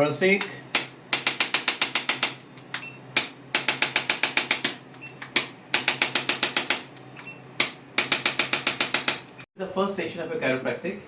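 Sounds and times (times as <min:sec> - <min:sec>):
sharp mechanical clicks: 0:00.4 - 0:09.4.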